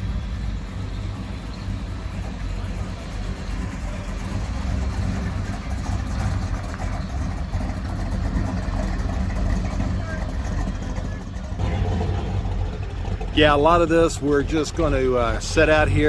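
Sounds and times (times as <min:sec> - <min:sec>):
car engines idling: 0:00.0 - 0:16.0.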